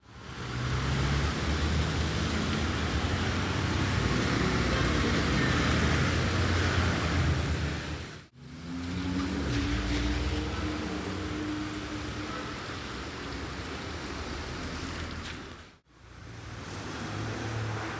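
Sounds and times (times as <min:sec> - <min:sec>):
steady hiss of rain traffic: 0:00.0 - 0:17.9.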